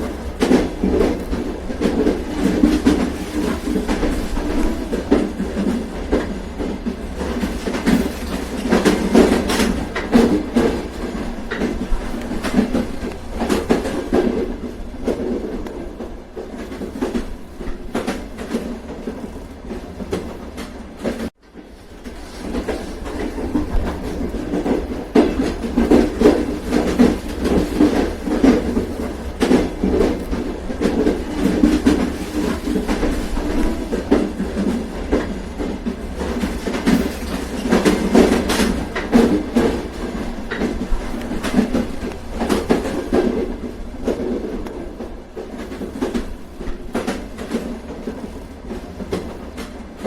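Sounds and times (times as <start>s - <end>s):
train rumbling on rails: 0.0s - 50.0s
wheels clacking over rail joints: 0.0s - 50.0s.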